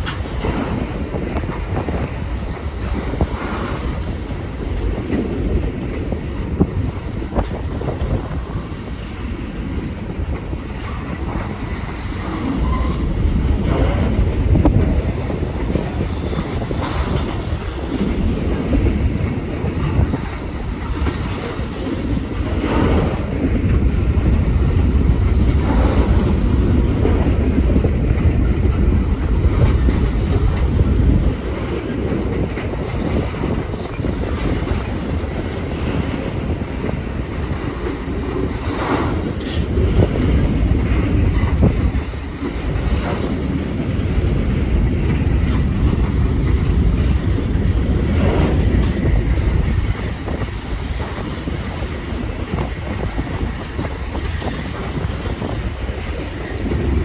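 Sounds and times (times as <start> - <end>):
clanks at rail joints: 0.0 - 57.0
train wheels rumbling on rail: 0.0 - 57.0.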